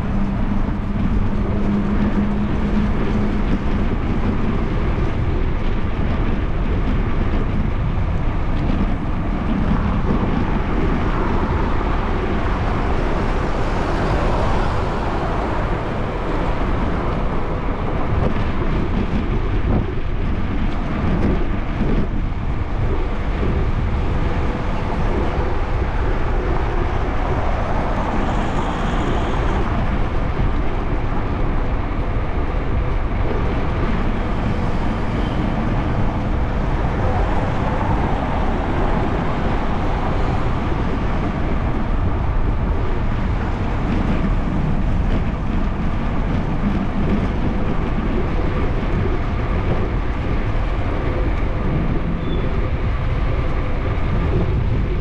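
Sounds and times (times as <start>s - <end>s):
tyre and road noise: 0.0s - 55.0s
wind on microphone: 0.0s - 55.0s.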